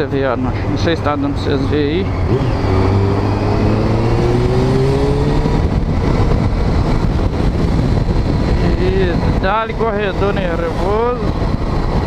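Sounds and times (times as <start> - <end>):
road and wind rush: 0.0 - 12.0
motorcycle engine accelerating: 1.7 - 12.0.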